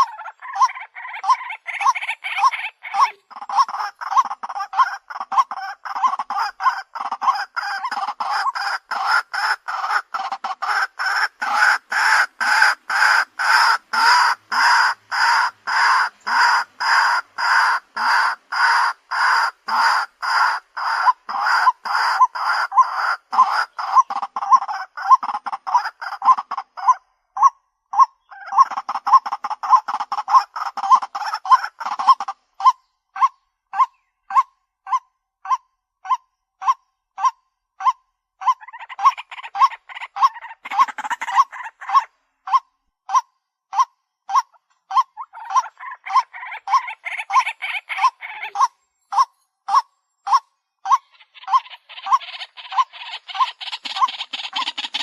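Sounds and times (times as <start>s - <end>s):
waterhen croaking calls: 0.0s - 55.0s.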